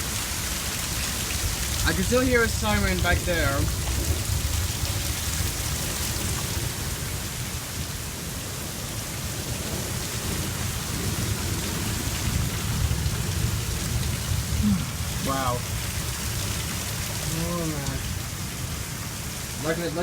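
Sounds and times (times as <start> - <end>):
heavy rain falling: 0.0 - 20.0
low rumble of thunder: 0.0 - 20.0.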